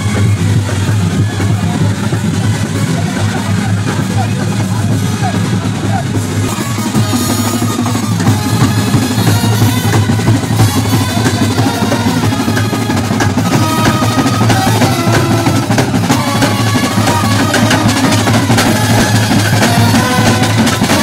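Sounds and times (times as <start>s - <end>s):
brass band horns: 0.0s - 21.0s
drum beat: 0.0s - 21.0s.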